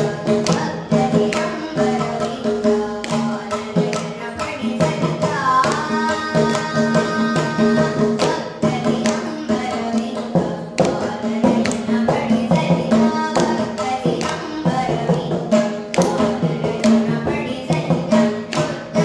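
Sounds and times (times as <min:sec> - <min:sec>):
girl singing: 0:00.0 - 0:19.0
mridangam drum strokes: 0:00.0 - 0:19.0.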